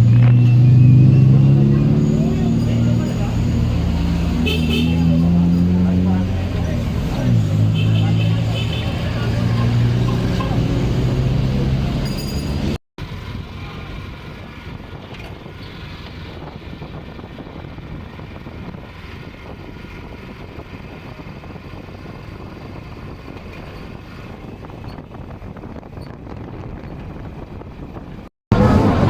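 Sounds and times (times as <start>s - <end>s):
outdoor background rumble: 0.0s - 29.0s.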